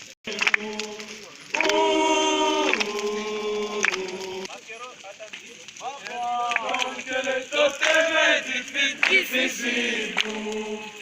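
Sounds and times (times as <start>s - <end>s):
group of voices chanting: 0.2s - 4.5s, 6.0s - 11.0s.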